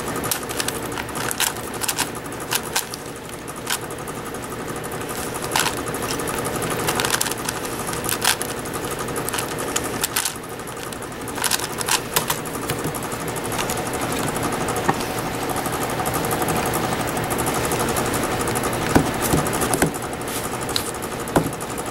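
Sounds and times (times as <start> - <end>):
puzzle cube rattling clatter: 0.0 - 21.9.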